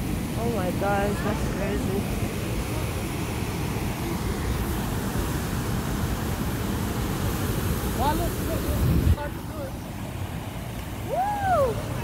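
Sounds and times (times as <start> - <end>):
waterfall and rapids rushing: 0.0 - 12.0.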